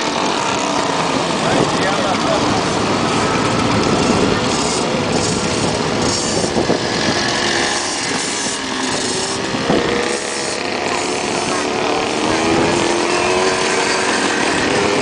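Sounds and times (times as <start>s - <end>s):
motorcycles passing: 0.0s - 15.0s.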